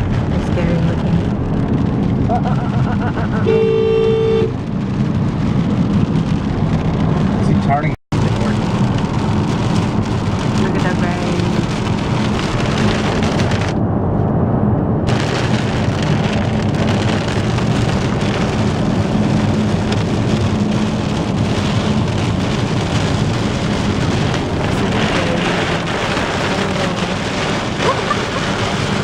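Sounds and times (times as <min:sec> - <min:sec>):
heavy rain on car roof: 0:00.0 - 0:13.8, 0:15.1 - 0:29.0
road and engine hum: 0:00.0 - 0:29.0.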